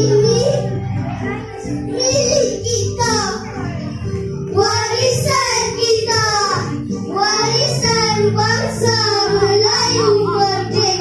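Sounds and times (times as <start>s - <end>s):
child singing through pa: 0.0s - 3.8s, 4.4s - 11.0s
backing music: 0.0s - 11.0s.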